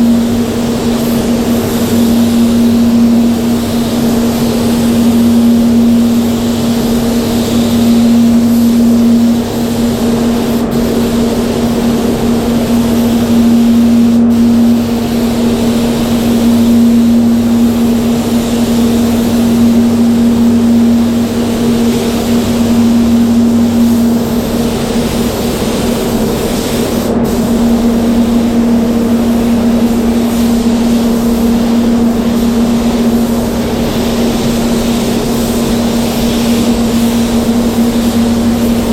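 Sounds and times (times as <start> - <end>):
spray booth hum: 0.0 - 38.9
spray gun air hiss: 0.0 - 38.9.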